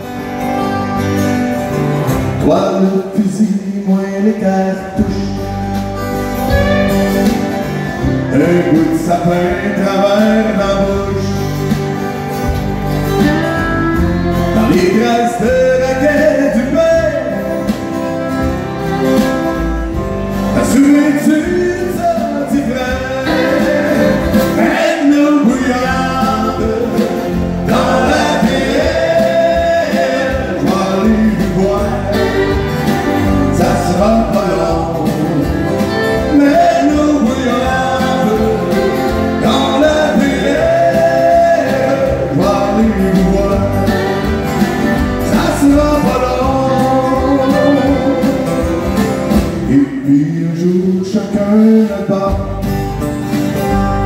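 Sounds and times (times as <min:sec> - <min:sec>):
man singing country song: 0:00.0 - 0:54.0
strummed acoustic guitars: 0:00.0 - 0:54.0.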